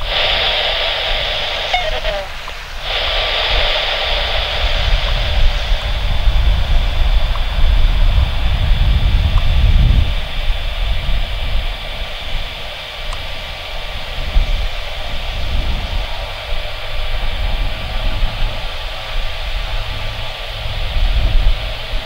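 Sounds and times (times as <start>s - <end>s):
low uneven rumble: 0.0s - 22.0s
plane engines whining: 0.0s - 22.0s.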